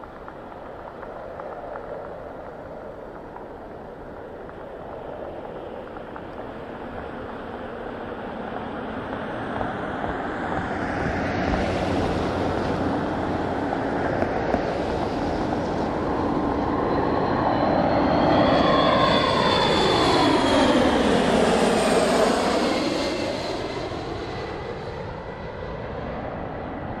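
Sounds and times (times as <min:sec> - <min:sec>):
jet engines on fly-by: 0:00.0 - 0:27.0.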